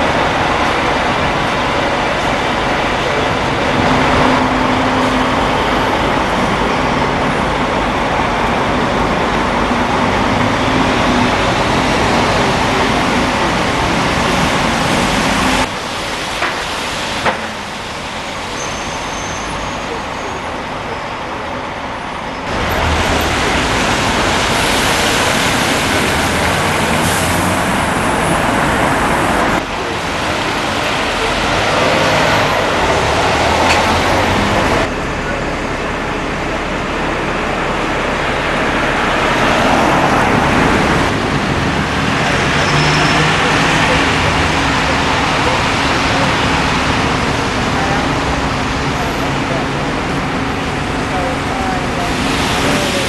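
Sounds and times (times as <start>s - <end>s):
vehicle engines and road noise: 0.0s - 53.0s.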